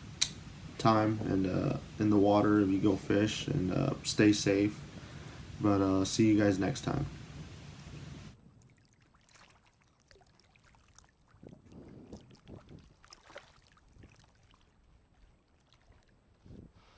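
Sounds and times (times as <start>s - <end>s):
faint water splashes and trickles: 0.2s - 16.8s.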